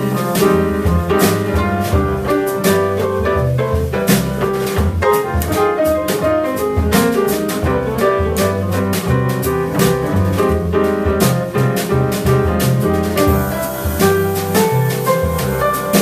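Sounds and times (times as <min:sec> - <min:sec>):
double bass low notes: 0:00.0 - 0:16.0
piano chords: 0:00.0 - 0:16.0.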